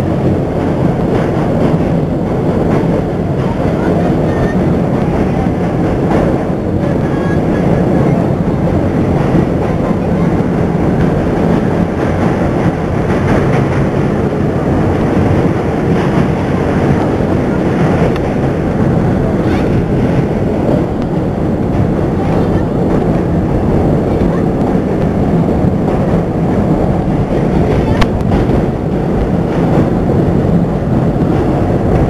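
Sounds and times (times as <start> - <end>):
subway train wheels rumbling on rails: 0.0 - 32.0.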